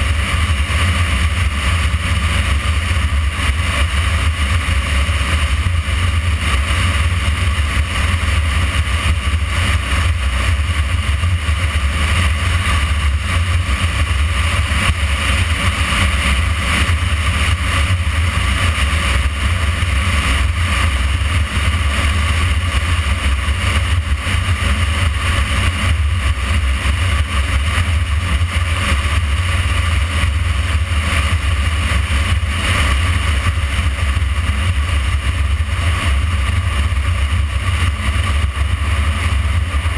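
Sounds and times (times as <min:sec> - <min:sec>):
motorcycle riding at speed: 0:00.0 - 0:39.9.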